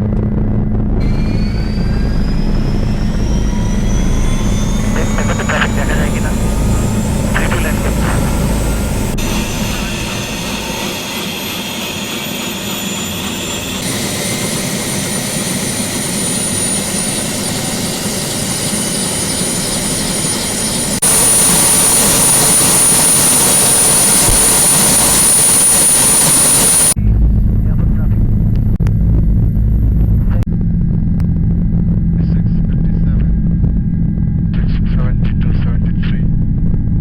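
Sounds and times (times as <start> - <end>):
high engine whine: 0.0 - 36.9
helicopter engine and rotor: 0.1 - 37.0.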